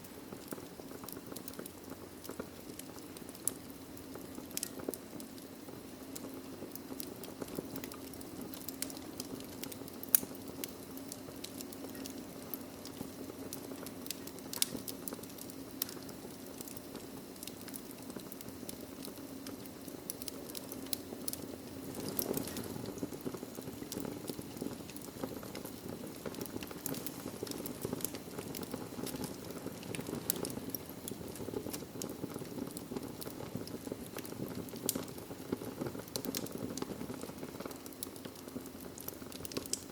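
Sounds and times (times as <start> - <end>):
low noise of burning fire: 0.0 - 39.9
wood fire pops and snaps: 0.0 - 39.9.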